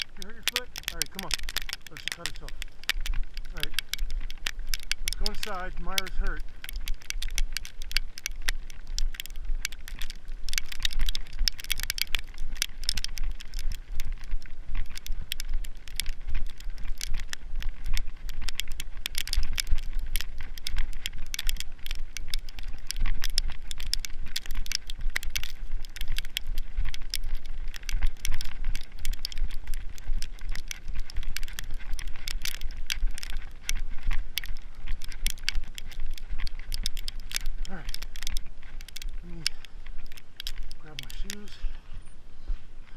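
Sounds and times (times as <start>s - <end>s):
footsteps crunching in wet snow: 0.0s - 42.9s.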